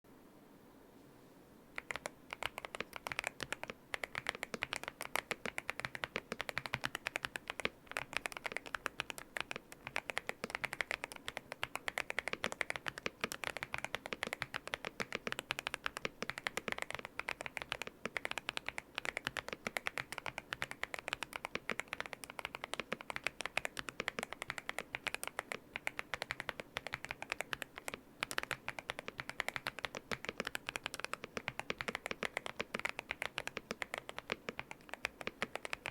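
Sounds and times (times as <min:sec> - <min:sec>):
fast typing on mechanical keyboard: 0:01.8 - 0:35.9.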